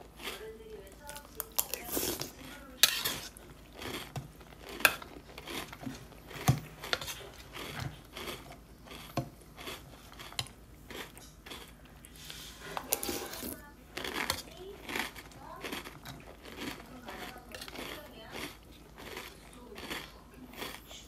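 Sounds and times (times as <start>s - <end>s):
chewing crunchy cereal: 0.0s - 21.0s.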